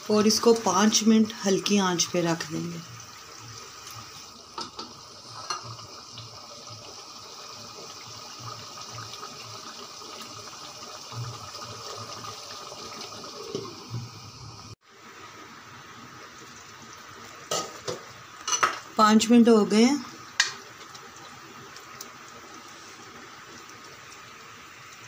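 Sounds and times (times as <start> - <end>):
curry bubbling in pot: 0.0 - 25.0.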